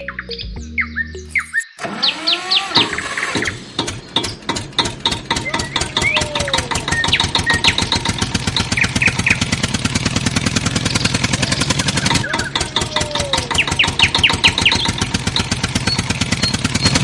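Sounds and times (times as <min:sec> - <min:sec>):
birds chirping: 0:00.0 - 0:17.0
engine chugging: 0:01.8 - 0:17.0.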